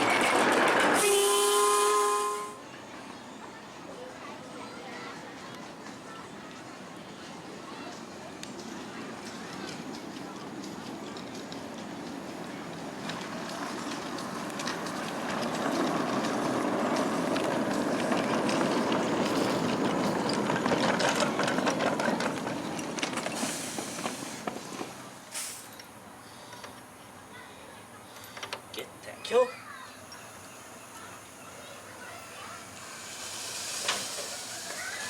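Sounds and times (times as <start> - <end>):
miniature train passing: 0.0 - 35.0.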